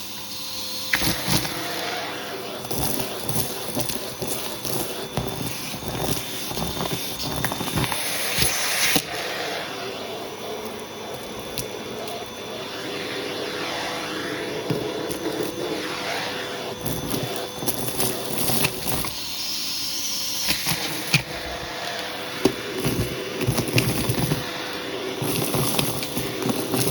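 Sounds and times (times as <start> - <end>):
vacuum cleaner running: 0.0 - 26.9
airflow change: 1.0 - 26.9.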